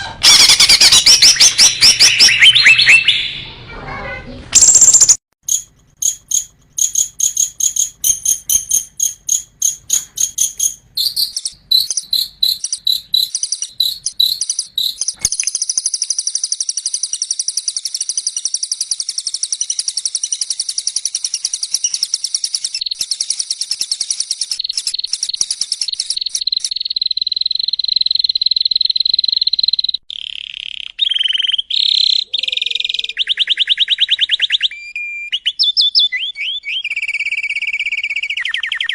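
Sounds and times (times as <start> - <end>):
songbird trilling: 4.6 - 38.9.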